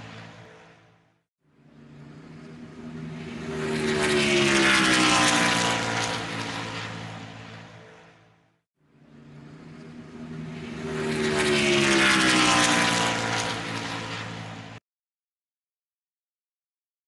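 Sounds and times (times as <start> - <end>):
race car passing by: 0.0 - 14.8.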